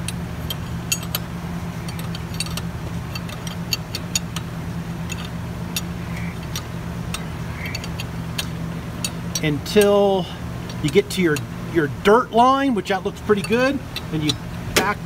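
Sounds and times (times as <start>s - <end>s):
wrench clicking: 0.0s - 11.5s, 13.3s - 15.0s
low hum: 0.0s - 15.0s.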